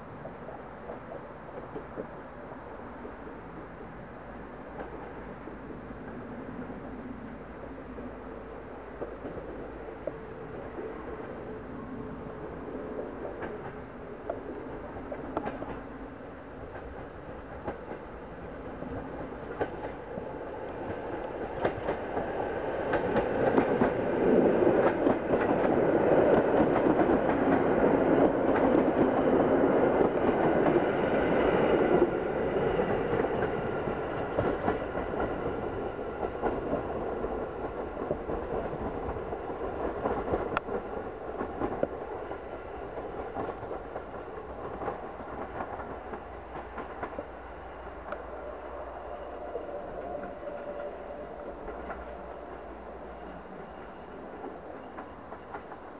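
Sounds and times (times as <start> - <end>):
train wheels clicking over rail joints: 0.2 - 2.2, 4.6 - 5.4, 12.5 - 48.6, 49.2 - 55.9.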